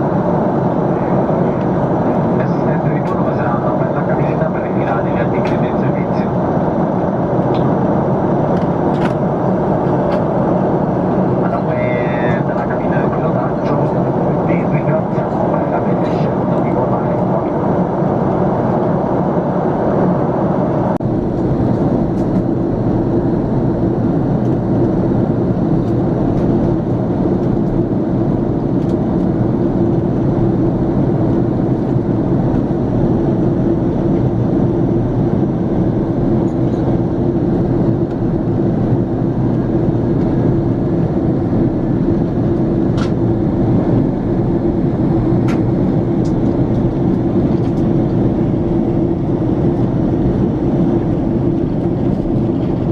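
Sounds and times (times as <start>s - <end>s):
airliner cabin noise: 0.0s - 52.9s.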